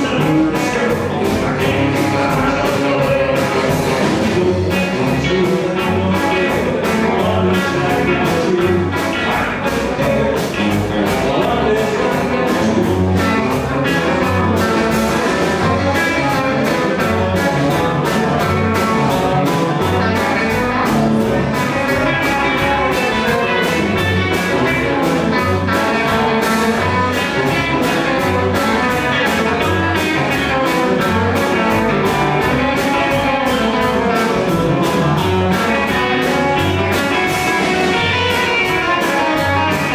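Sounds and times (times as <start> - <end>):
drums keeping a beat: 0.0 - 39.9
electric guitars: 0.0 - 39.9
upright double bass: 0.0 - 39.9.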